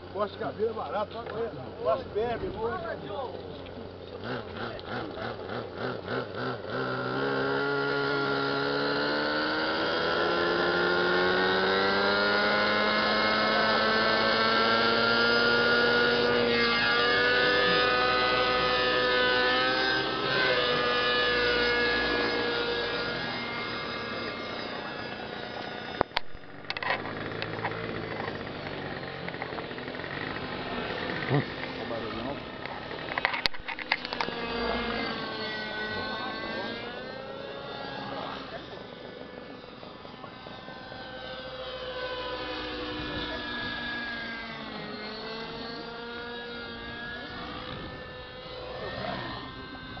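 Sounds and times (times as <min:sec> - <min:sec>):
model helicopter whine: 0:00.0 - 0:50.0.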